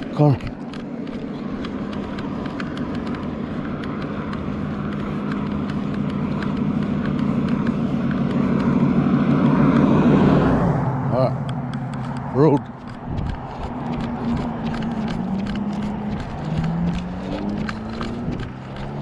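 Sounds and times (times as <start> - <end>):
faint regular clicks: 0.0 - 10.2, 11.4 - 19.0
car engine and tyre drone: 0.0 - 19.0.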